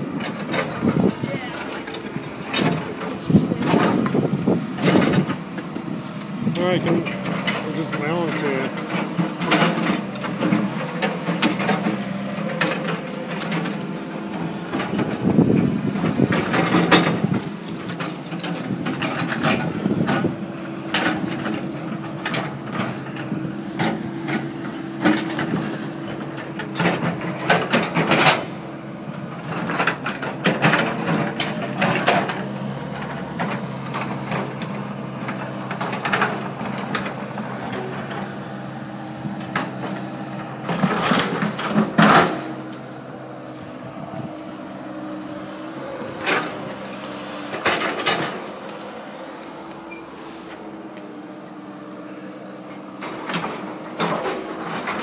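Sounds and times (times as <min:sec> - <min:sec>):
engine hum: 0:00.0 - 0:55.0.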